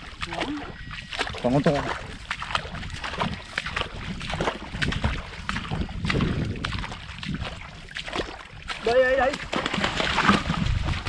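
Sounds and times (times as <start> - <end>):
footsteps splashing in muddy water: 0.0 - 11.0
wind rumbling on microphone: 0.0 - 11.0.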